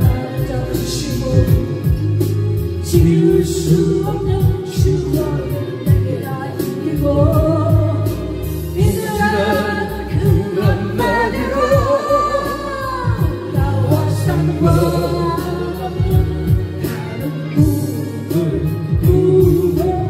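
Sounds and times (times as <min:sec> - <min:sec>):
karaoke backing track with beat: 0:00.0 - 0:20.0
man singing into a microphone: 0:00.0 - 0:20.0.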